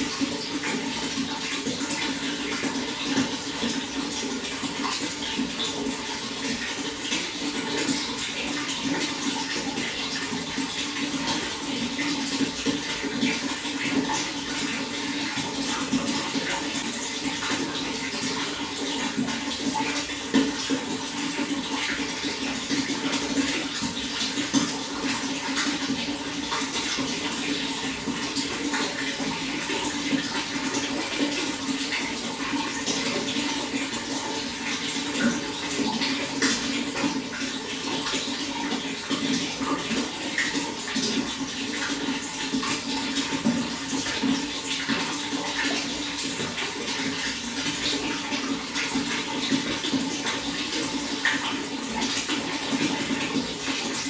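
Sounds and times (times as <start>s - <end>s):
running water with splashes: 0.0s - 54.0s.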